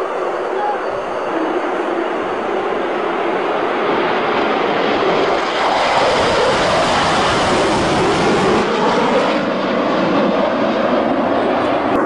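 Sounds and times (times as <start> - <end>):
fighter jet engine roar: 0.0 - 12.0.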